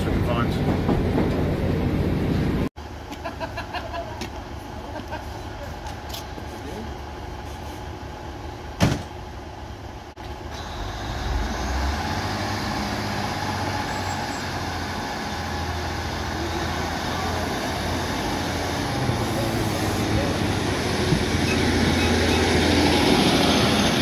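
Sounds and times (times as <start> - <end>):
diesel train engines throttling up: 0.0 - 24.0.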